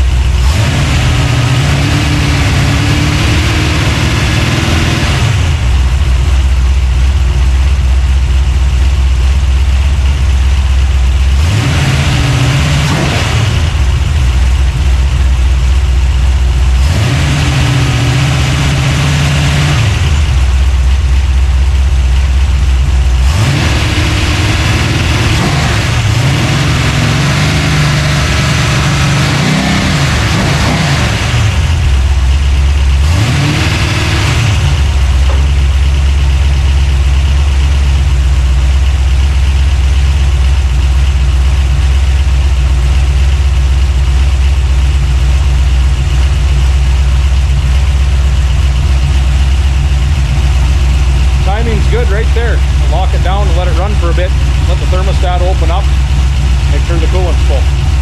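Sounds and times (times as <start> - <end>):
engine revving and idling: 0.0 - 58.0.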